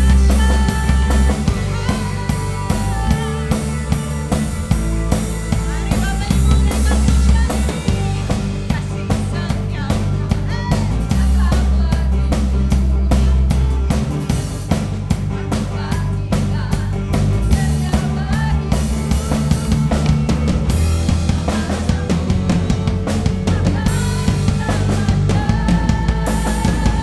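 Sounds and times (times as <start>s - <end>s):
bass guitar low notes: 0.0s - 27.0s
drum kit beat: 0.0s - 27.0s.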